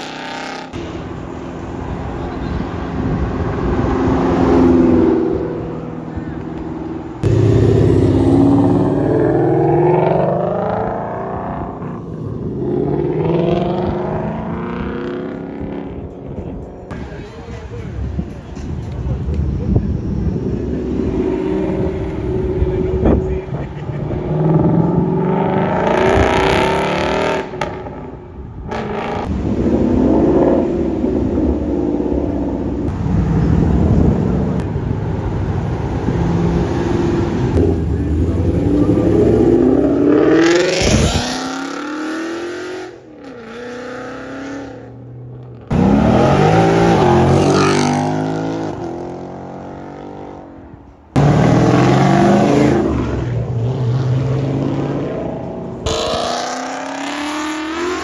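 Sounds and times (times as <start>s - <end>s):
performance car engines revving: 0.0s - 58.0s.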